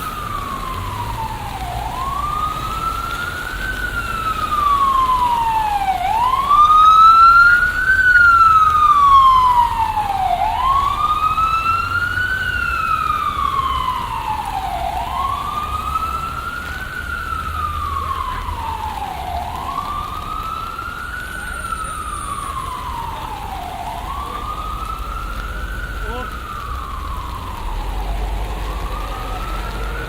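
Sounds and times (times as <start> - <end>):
city traffic rumble: 0.0 - 30.0
emergency siren wailing: 0.0 - 30.0.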